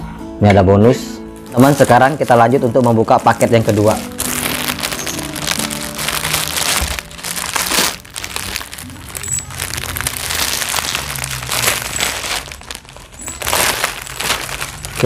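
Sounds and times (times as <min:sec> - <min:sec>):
plastic parcel crinkling: 0:01.4 - 0:15.0.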